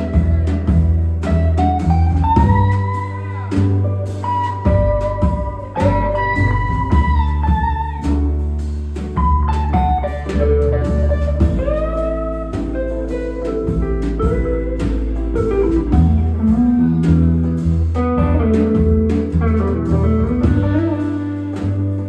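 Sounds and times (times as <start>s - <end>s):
bass line: 0.0s - 22.0s
blues guitar lead: 0.0s - 22.0s
drums: 0.0s - 22.0s.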